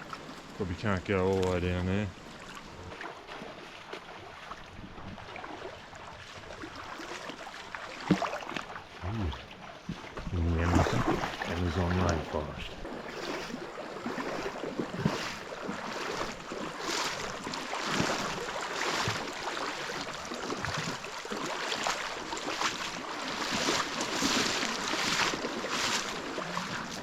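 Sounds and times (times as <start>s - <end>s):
river water running: 0.0s - 27.0s
rustling along bank: 0.0s - 27.0s
splashing through water: 0.0s - 27.0s.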